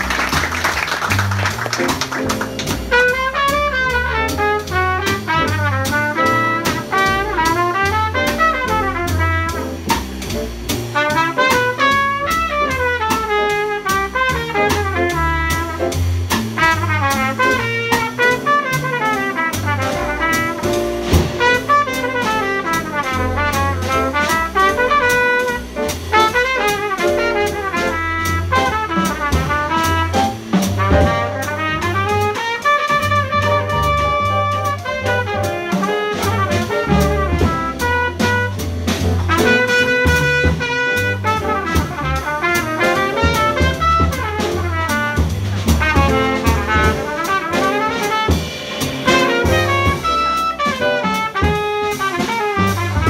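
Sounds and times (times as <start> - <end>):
bass: 0.0 - 53.0
drum kit with cymbals: 0.0 - 53.0
fast melodic line: 0.0 - 53.0.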